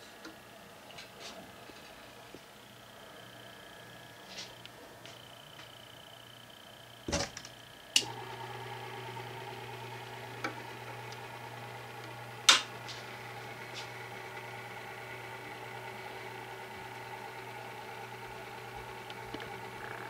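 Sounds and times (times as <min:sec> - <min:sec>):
electric motor humming: 0:01.6 - 0:20.0.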